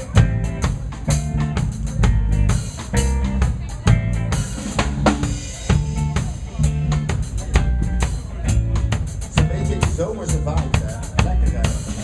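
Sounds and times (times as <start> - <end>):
bass notes: 0.0 - 12.0
reggae band playing: 0.0 - 12.0.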